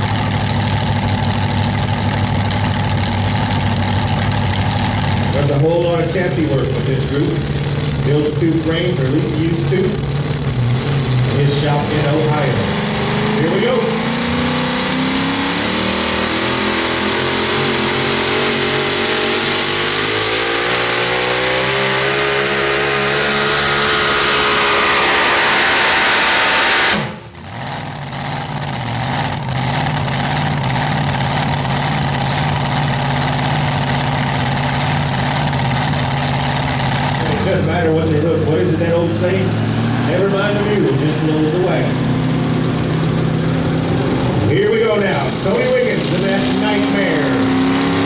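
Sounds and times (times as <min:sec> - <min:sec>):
truck engine at full throttle: 0:00.0 - 0:48.0.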